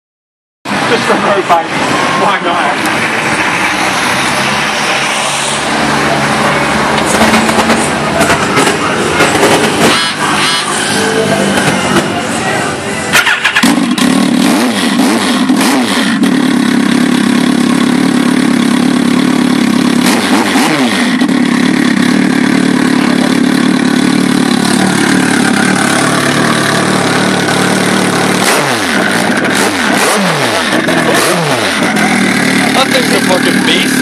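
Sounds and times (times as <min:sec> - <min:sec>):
motorcycle engine idling and revving: 0:00.7 - 0:34.0.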